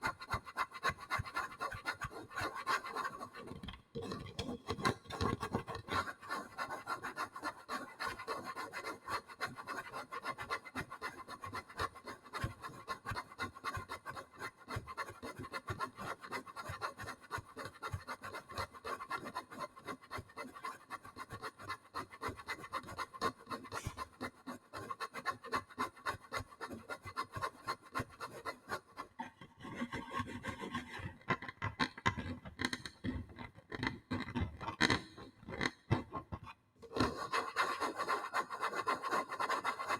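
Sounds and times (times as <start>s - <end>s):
scratching and rubbing on a surface: 0.0s - 39.9s.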